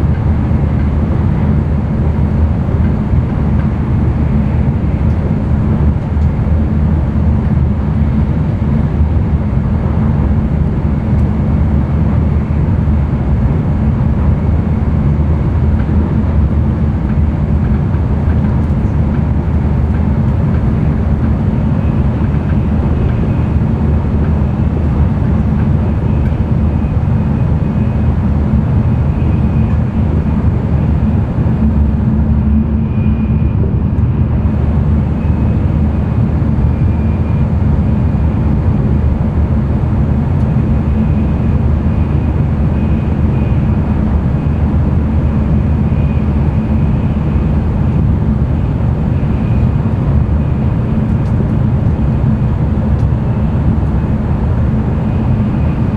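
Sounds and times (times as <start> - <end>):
train cabin running rumble: 0.0 - 55.9.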